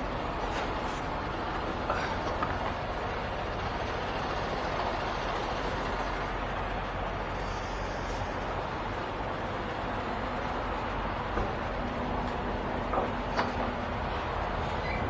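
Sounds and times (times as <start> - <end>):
truck diesel engines idling: 0.0 - 15.0.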